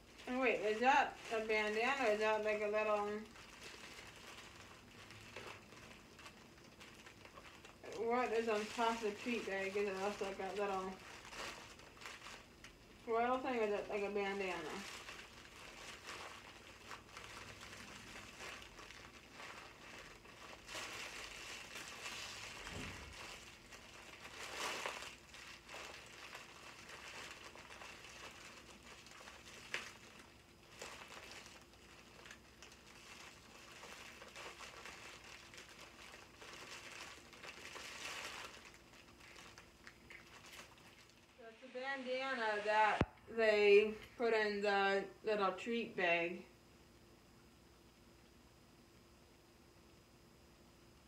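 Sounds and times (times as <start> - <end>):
plastic wrapping crinkling: 0.0 - 44.3.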